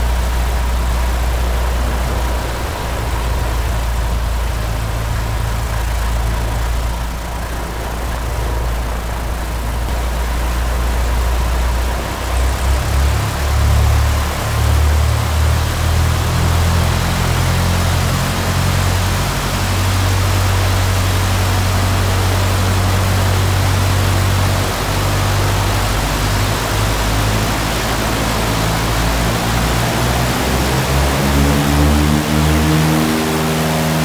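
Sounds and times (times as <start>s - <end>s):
aircraft engine at full power: 0.0s - 34.0s.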